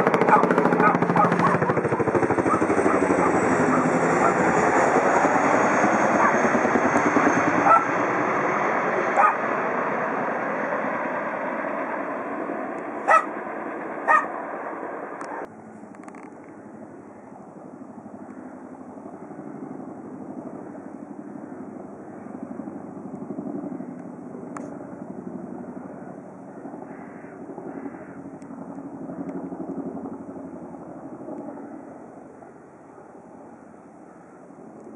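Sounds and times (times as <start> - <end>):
distant helicopters droning: 0.0 - 34.9
helicopter rotor noise: 0.0 - 34.9.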